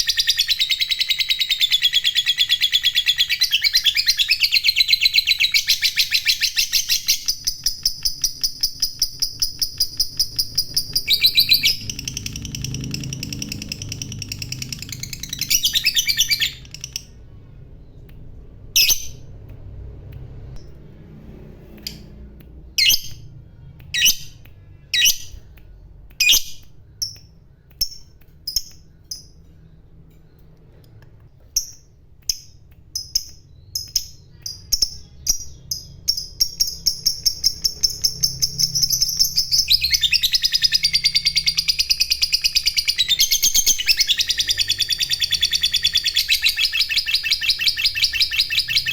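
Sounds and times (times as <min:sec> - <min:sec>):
lovebird chattering and chirping: 0:00.0 - 0:18.0, 0:18.7 - 0:19.4, 0:21.6 - 0:23.3, 0:23.9 - 0:48.9.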